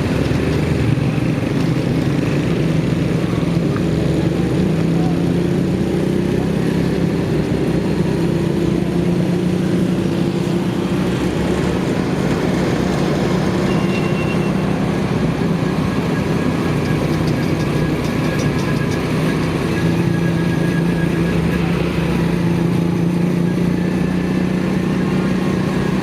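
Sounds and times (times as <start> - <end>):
motorcycle engine running: 0.0 - 26.0
road and wind noise: 0.0 - 26.0.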